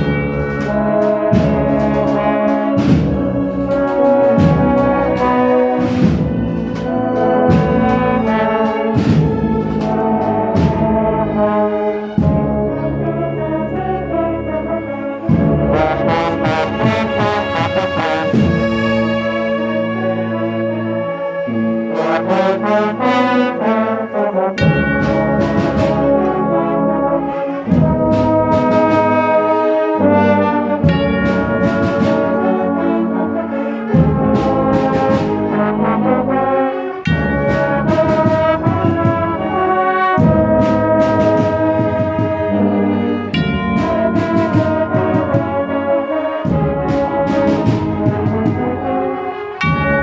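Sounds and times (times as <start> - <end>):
steady drum beats: 0.0 - 13.2, 15.2 - 19.8, 22.0 - 50.0
brass band playing: 0.0 - 50.0
trombones and trumpets chords: 0.0 - 50.0.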